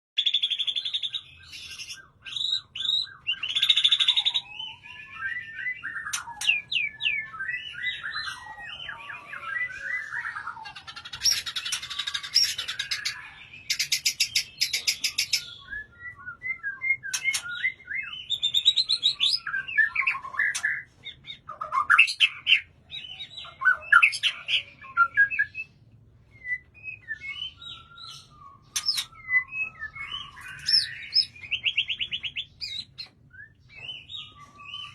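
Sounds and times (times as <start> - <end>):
bird singing whistles and trills: 0.2 - 34.9.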